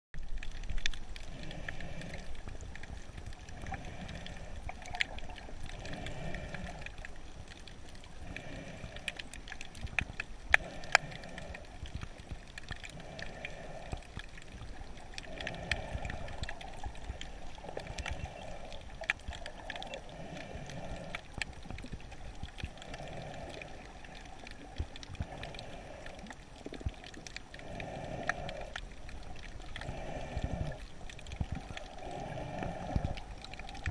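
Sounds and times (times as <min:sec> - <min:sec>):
muffled underwater water movement: 0:00.2 - 0:33.9.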